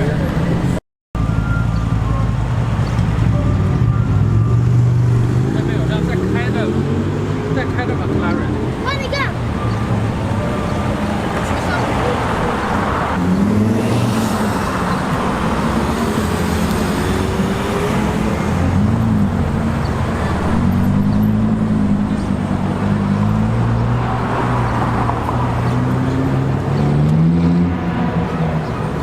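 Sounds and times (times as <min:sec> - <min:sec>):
traffic noise: 0:00.0 - 0:29.0.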